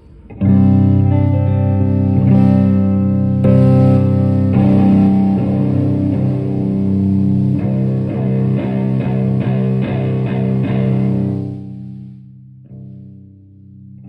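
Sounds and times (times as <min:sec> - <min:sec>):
distorted electric guitar chords: 0:00.0 - 0:14.0.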